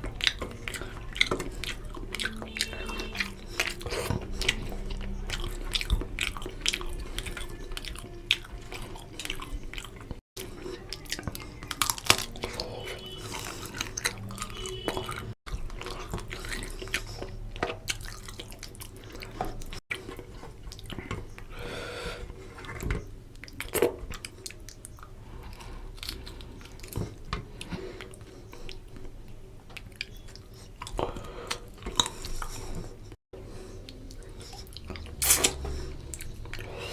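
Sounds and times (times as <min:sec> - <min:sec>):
person chewing food: 0:00.0 - 0:36.9.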